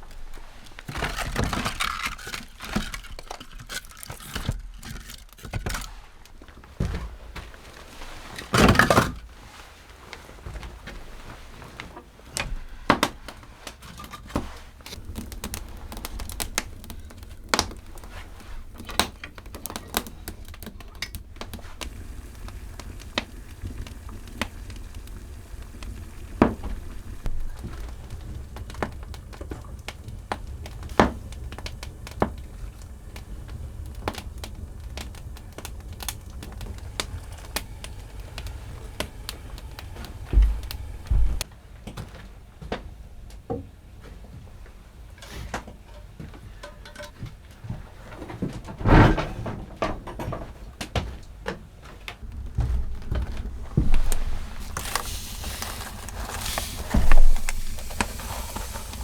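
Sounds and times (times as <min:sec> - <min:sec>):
crinkling and rustling: 0:00.0 - 0:42.8, 0:45.2 - 0:59.0.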